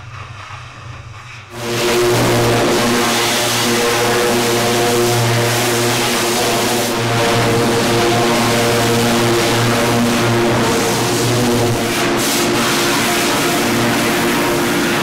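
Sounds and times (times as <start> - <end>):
pressure washer jet hissing: 1.5 - 15.0
pump motor drone: 1.5 - 15.0.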